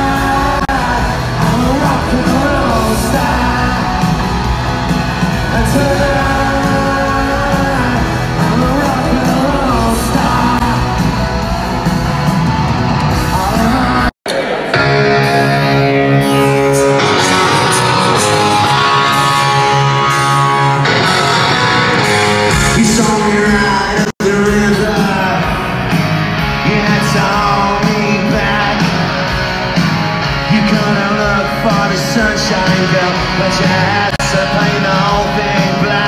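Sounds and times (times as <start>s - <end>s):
person singing: 0.0s - 11.6s, 13.1s - 29.4s, 30.3s - 36.0s
live rock band playing: 0.0s - 36.0s.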